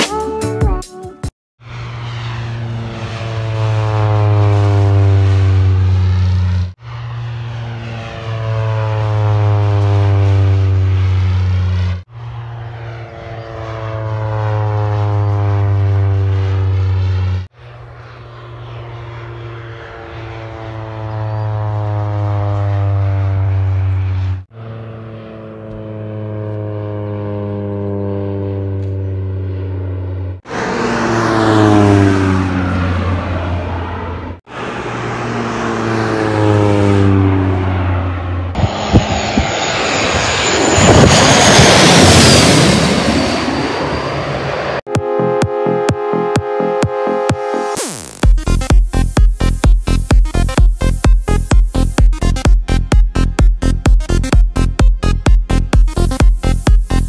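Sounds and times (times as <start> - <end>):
propeller airplane passing: 0.0 - 57.0.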